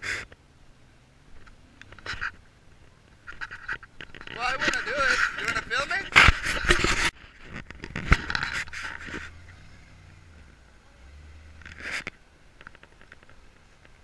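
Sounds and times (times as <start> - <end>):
engine low rumble: 0.0 - 6.2, 7.3 - 14.0
scraping on microphone: 1.4 - 10.6, 11.5 - 14.0.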